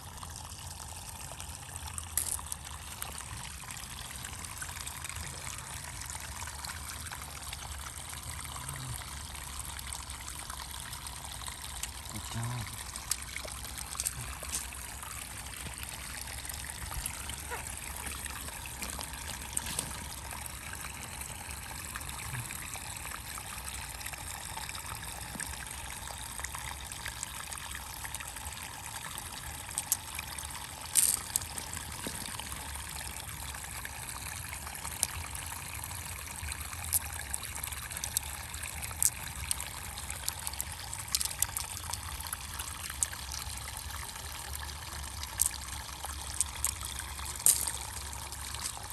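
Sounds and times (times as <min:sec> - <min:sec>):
water trickling and splashing: 0:00.0 - 0:48.9.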